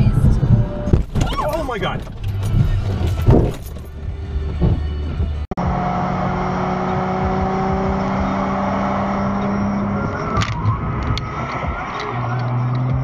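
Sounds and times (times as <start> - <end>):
car engine and tyre drone: 0.0 - 13.0.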